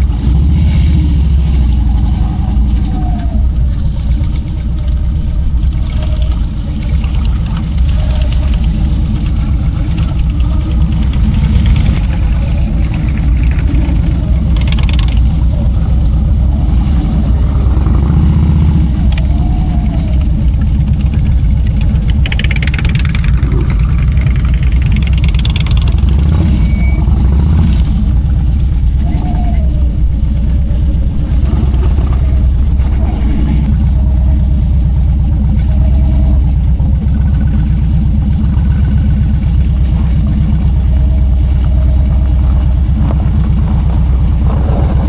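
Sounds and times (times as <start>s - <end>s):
motorcycle engine running: 0.0s - 45.0s
wind and road noise: 0.0s - 45.0s.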